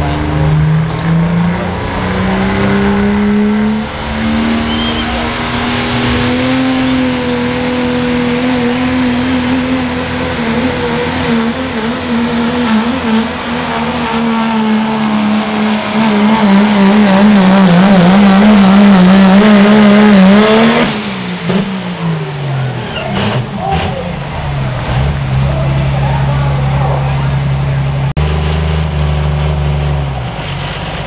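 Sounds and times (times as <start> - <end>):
diesel engine at full throttle: 0.0 - 31.0.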